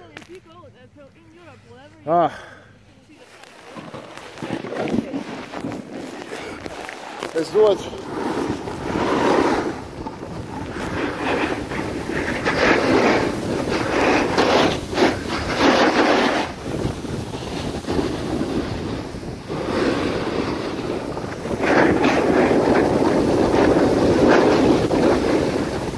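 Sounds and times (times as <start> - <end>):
skis scraping over snow: 2.9 - 25.9
wind rushing over microphone: 3.4 - 25.9.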